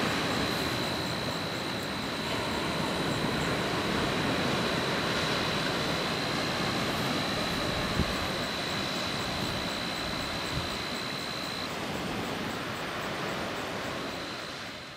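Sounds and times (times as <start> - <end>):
thin high whine: 0.0 - 14.9.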